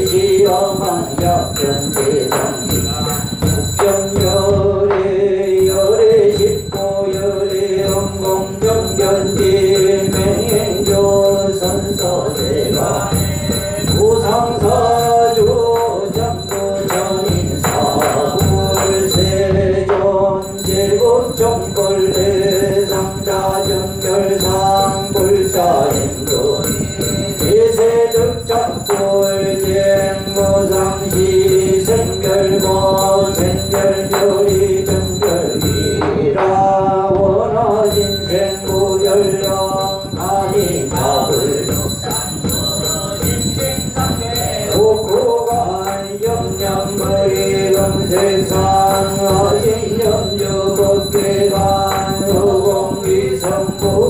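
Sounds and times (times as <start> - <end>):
congregation chanting: 0.0 - 54.0.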